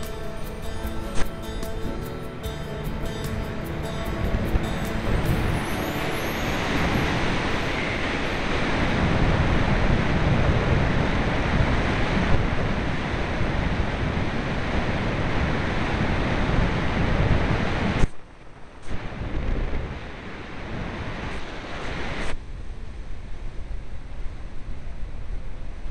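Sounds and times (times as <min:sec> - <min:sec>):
wind rushing over microphone: 0:00.0 - 0:25.9.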